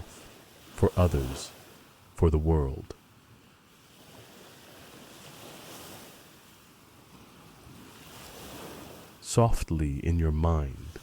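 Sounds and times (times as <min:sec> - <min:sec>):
soft ocean waves: 0:00.0 - 0:11.0.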